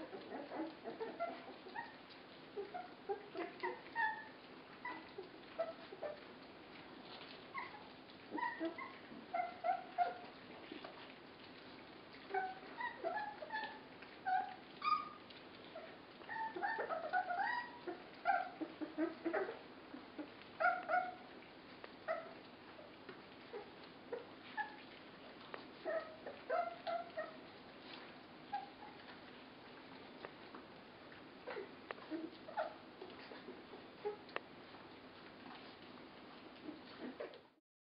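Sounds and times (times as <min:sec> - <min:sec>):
puppies whimpering and yipping: 0:00.0 - 0:37.6.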